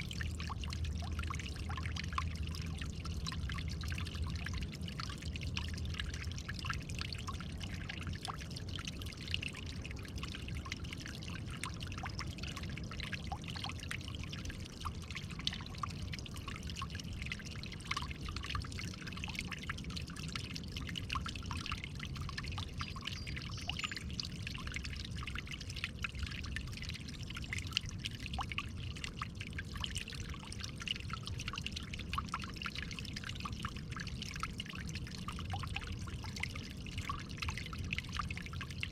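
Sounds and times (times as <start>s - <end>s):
running water trickling: 0.0s - 38.9s
water drips and plinks: 0.0s - 38.9s.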